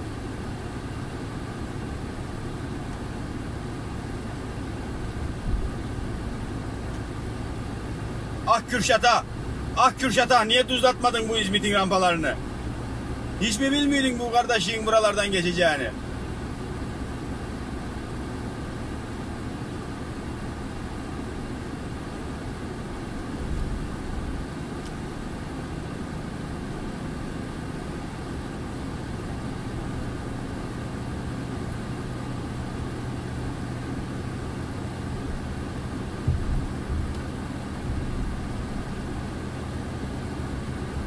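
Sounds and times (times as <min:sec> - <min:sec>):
diesel truck engine running: 0:00.0 - 0:41.0.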